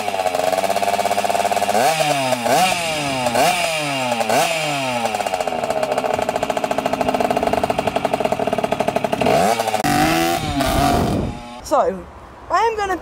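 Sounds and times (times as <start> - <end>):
two-stroke engine revving and idling: 0.0 - 11.6.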